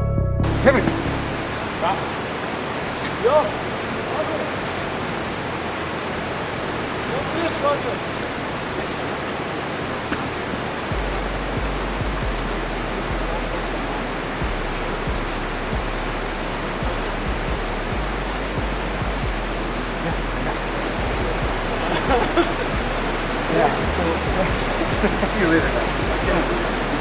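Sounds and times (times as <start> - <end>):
background music with deep bass: 0.0 - 2.8, 4.2 - 27.0
river water rushing: 0.5 - 27.0.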